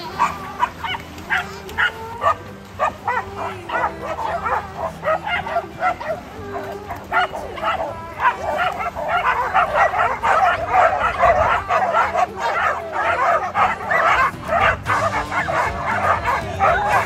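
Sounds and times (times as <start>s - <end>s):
dogs yipping and barking: 0.0s - 17.0s.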